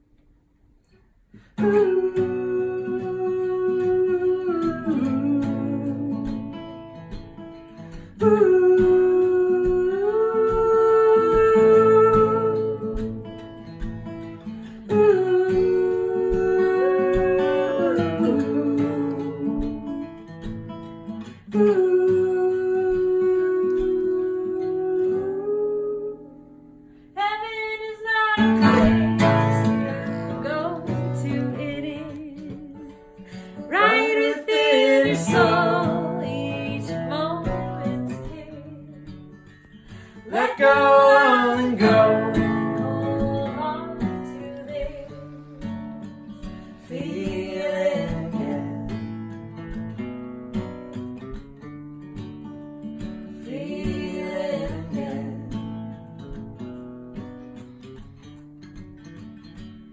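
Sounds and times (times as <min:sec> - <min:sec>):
acoustic guitar strummed and picked: 0:01.1 - 0:59.9.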